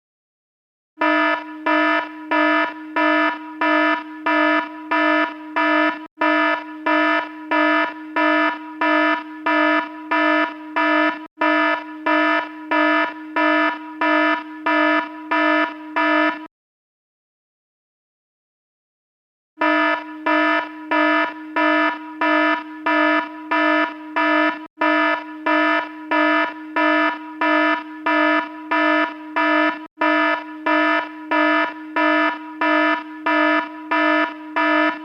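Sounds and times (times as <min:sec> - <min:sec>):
fire alarm horn buzzing pulses: 0:01.0 - 0:16.5, 0:19.6 - 0:35.0.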